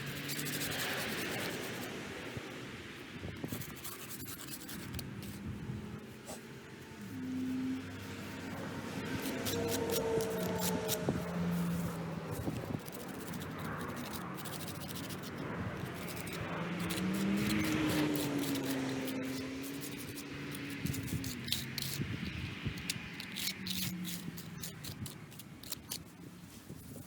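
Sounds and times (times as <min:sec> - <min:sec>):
scrubbing on stone surface: 0:00.0 - 0:02.5, 0:03.4 - 0:27.0.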